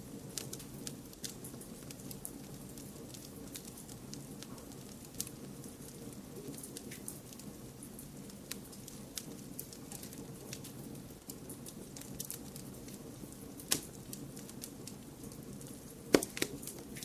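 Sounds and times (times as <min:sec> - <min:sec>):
steady hiss: 0:00.0 - 0:17.0
wood fire crackling: 0:00.0 - 0:17.0.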